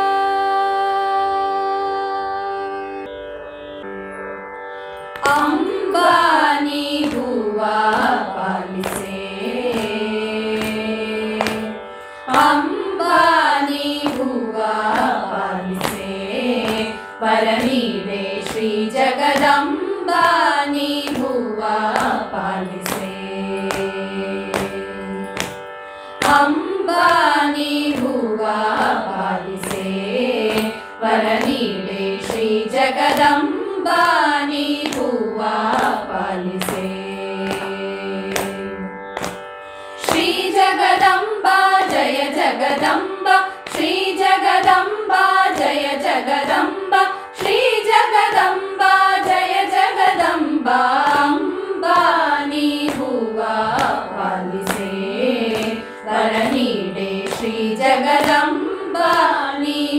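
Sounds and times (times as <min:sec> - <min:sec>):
women singing in unison: 0:00.0 - 0:03.1, 0:05.2 - 0:25.6, 0:26.2 - 0:39.4, 0:40.0 - 0:59.9.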